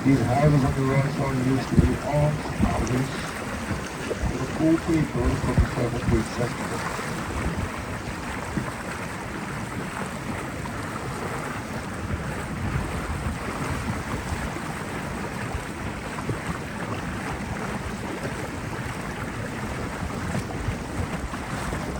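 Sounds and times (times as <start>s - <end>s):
boat engine rumble: 0.0s - 21.9s
wind on microphone: 0.0s - 21.9s.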